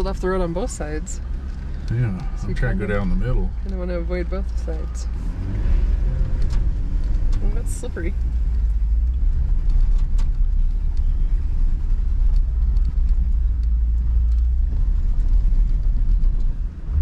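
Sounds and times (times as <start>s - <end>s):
engine rumbling low: 0.0s - 17.0s.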